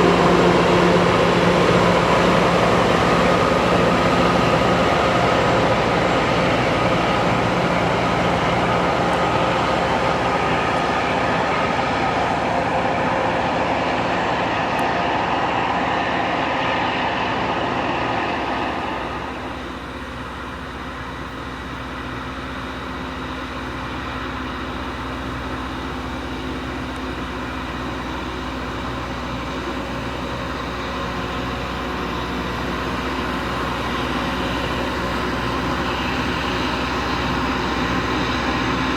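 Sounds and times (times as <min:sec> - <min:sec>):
rail grinder roaring: 0:00.0 - 0:38.9.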